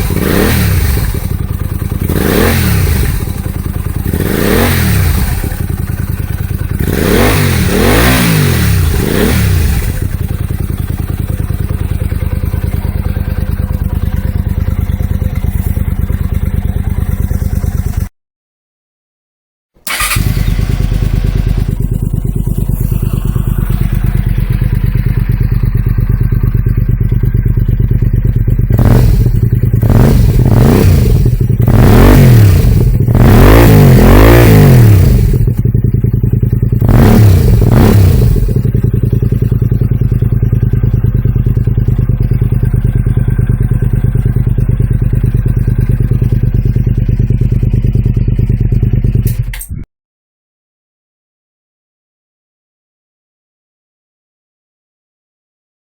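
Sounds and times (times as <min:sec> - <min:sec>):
motorcycle engine idling and revving: 0:00.0 - 0:18.1, 0:19.8 - 0:49.9.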